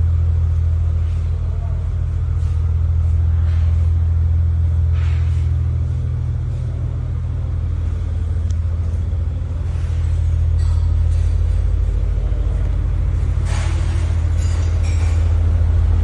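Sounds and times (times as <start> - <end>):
car low rumble: 0.0 - 16.0.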